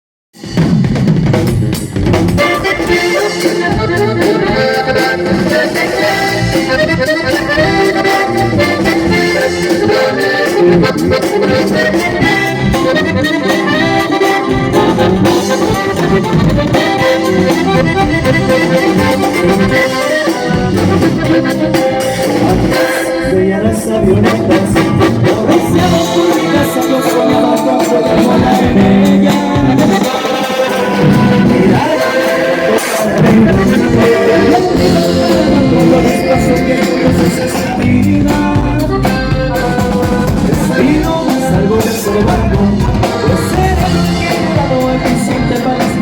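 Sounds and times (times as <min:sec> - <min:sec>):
accordion music: 0:00.4 - 0:46.0.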